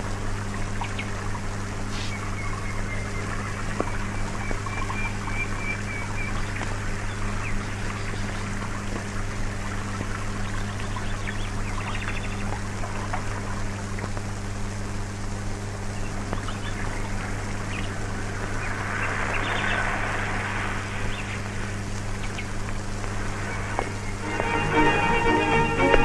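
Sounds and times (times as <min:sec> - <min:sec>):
crackles: 0:00.0 - 0:26.0
film hiss: 0:00.0 - 0:26.0
low hum: 0:00.0 - 0:26.0.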